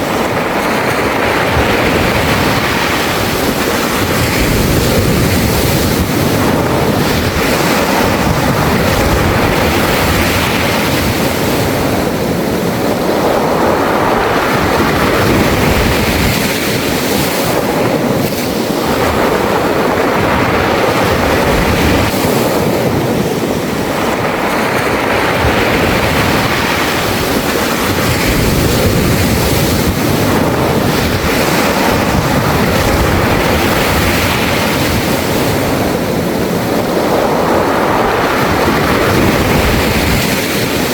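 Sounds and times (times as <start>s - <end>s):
sea waves washing on beach: 0.0s - 40.9s.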